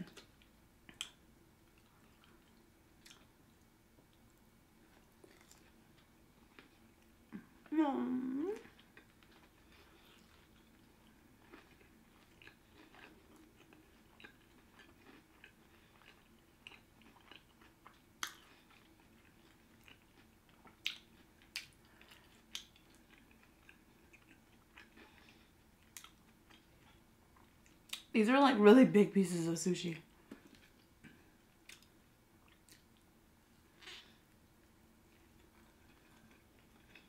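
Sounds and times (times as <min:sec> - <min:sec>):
person chewing food: 0:00.2 - 0:07.6, 0:08.6 - 0:28.1, 0:30.2 - 0:37.0.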